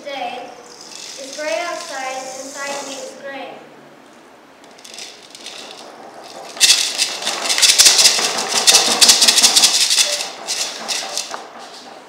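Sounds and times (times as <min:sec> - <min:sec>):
maracas shaking: 0:00.6 - 0:03.2, 0:04.7 - 0:11.9.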